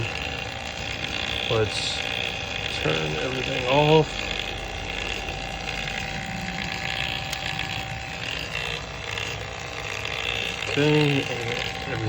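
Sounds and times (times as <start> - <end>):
vacuum pump humming and whining: 0.0 - 12.0.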